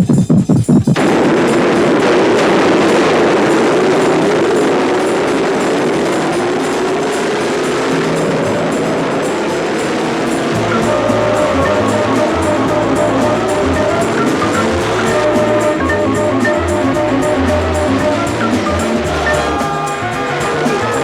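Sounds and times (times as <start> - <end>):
racing car engines at full throttle: 2.3 - 21.0.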